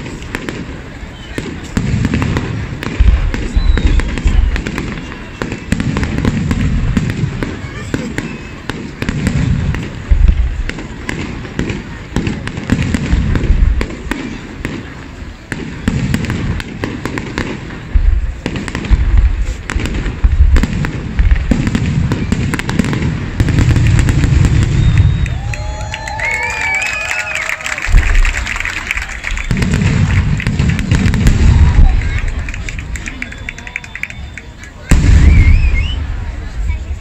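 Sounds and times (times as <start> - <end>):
fireworks booming: 0.0 - 37.0
fireworks crackling pops: 0.0 - 37.0.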